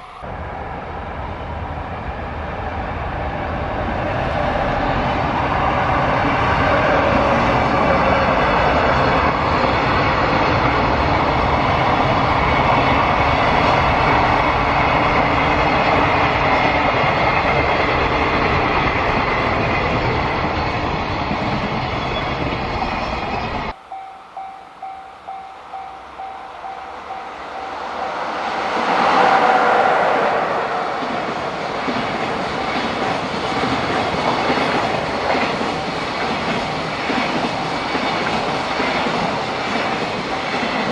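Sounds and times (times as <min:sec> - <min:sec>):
freight train rumbling past: 0:00.0 - 0:40.9
train approaching: 0:00.0 - 0:40.9.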